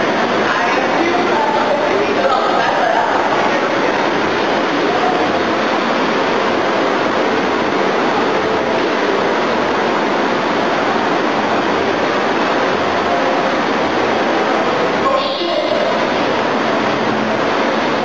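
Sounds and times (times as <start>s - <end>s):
crowd chatter: 0.0s - 18.0s.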